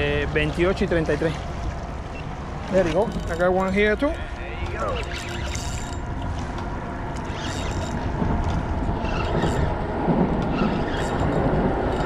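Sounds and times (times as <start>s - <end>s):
traffic rumble on bridge overhead: 0.0s - 12.0s.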